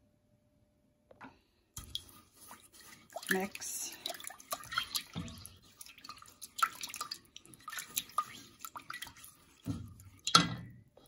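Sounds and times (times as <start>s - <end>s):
spatula stirring sauce in a pot: 1.8s - 11.0s.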